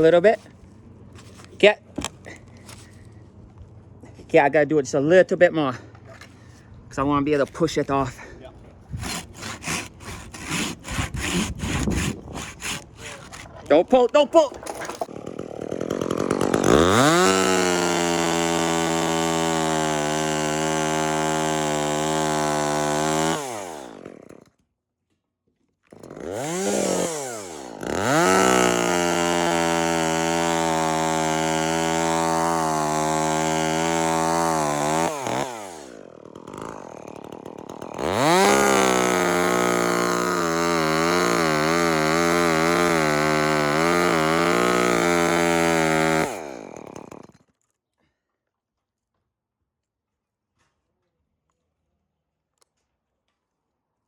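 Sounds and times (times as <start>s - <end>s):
chainsaw cutting wood: 0.0s - 4.0s, 6.0s - 24.7s, 25.8s - 47.6s.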